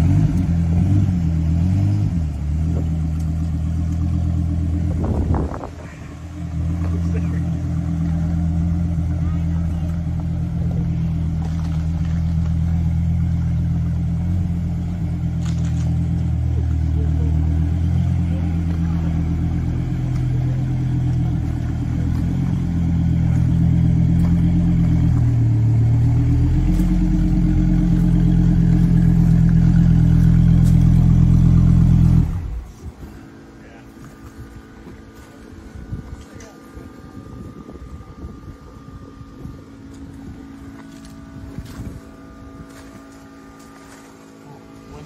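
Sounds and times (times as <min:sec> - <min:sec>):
car engine running at low revs: 0:00.0 - 0:45.0.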